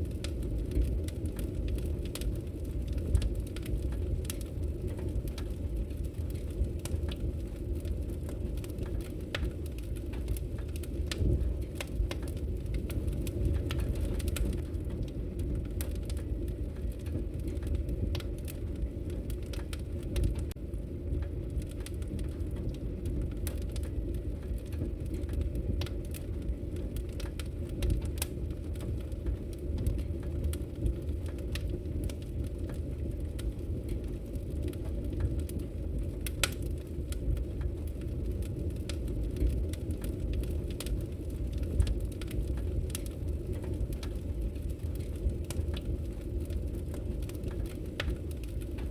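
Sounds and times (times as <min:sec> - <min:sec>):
logs crackling in a fireplace: 0:00.0 - 0:48.9
low fire rumble: 0:00.0 - 0:48.9.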